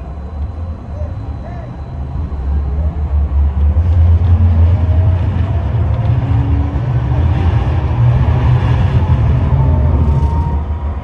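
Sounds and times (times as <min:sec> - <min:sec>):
faint whining tones: 0:00.0 - 0:11.0
tram rumbling along track: 0:00.0 - 0:11.0.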